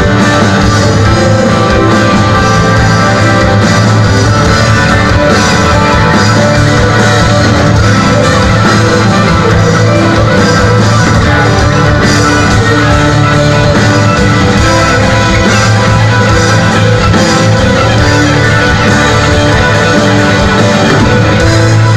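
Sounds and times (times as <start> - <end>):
rock band playing instrumental: 0.0 - 21.9.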